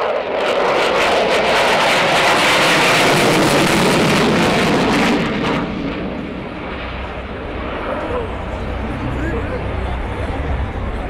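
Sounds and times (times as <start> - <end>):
jet passing overhead: 0.0 - 11.0.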